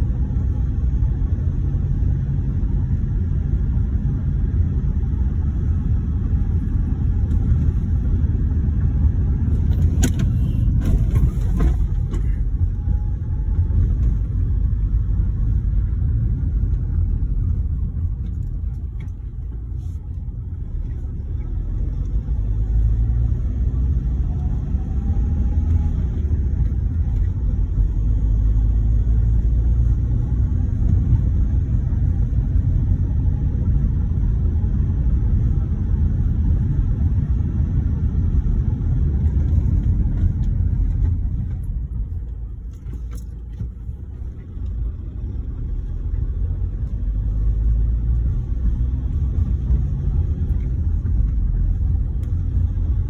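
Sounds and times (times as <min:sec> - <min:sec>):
car engine rumble inside cabin: 0:00.0 - 0:53.0
road noise: 0:00.0 - 0:53.0.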